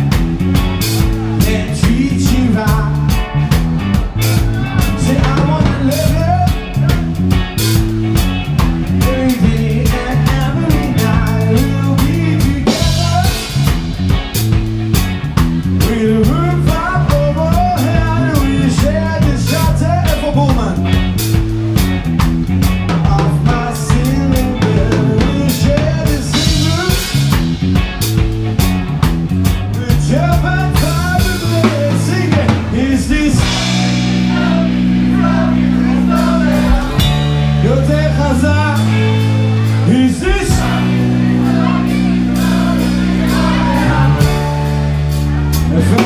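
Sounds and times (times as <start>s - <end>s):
drum kit beating a groove: 0.0s - 46.0s
electric bass: 0.0s - 46.0s
electric guitar: 0.0s - 46.0s.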